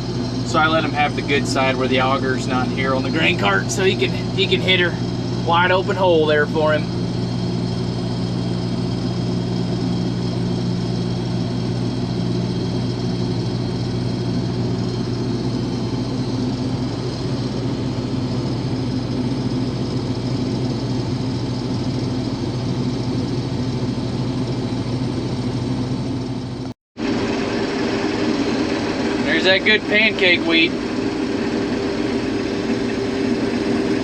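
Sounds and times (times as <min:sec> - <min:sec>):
combine harvester droning: 0:00.0 - 0:34.0.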